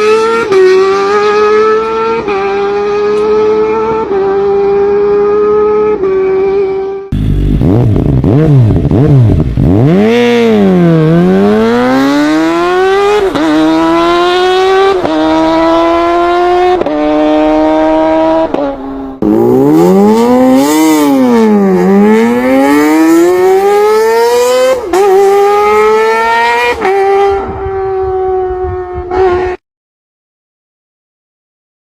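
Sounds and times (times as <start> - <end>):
motorcycle engine accelerating hard: 0.0 - 29.6.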